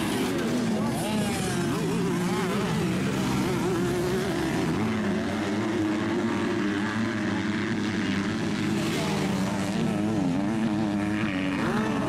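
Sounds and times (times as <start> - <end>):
dirt bike engines racing: 0.0 - 12.0.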